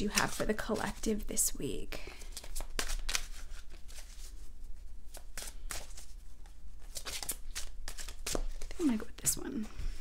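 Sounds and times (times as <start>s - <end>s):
cards being shuffled: 0.0s - 1.2s, 2.1s - 9.4s.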